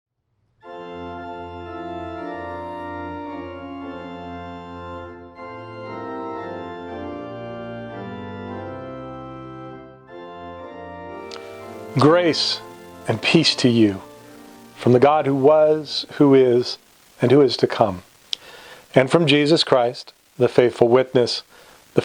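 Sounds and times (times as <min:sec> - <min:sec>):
organ playing slow chords: 0:00.6 - 0:19.4.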